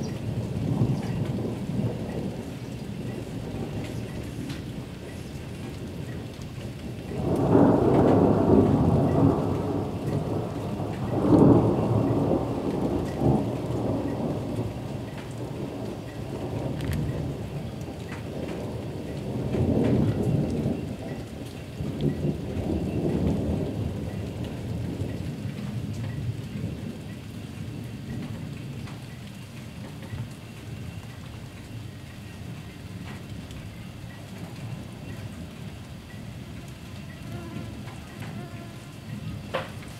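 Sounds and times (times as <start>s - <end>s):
thunder rolling: 0.0s - 29.1s, 32.6s - 39.9s
raindrop ticks: 0.0s - 39.9s
steady rain: 0.0s - 39.9s.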